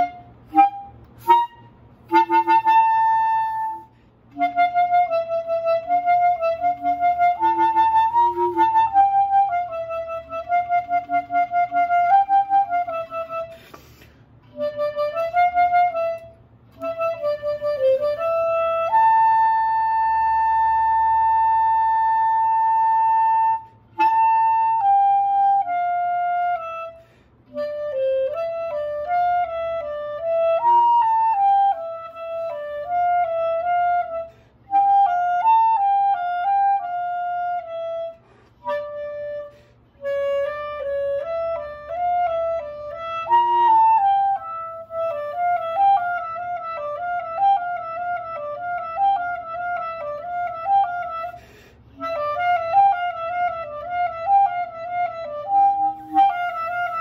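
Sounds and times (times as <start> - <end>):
clarinet melody: 0.0 - 57.0.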